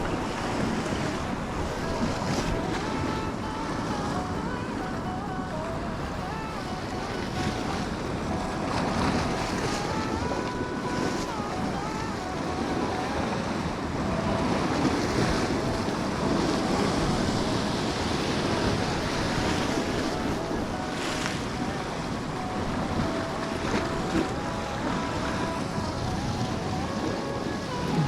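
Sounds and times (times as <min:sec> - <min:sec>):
strong wind buffeting microphone: 0:00.0 - 0:28.0
waves surging against rocks: 0:00.0 - 0:28.0.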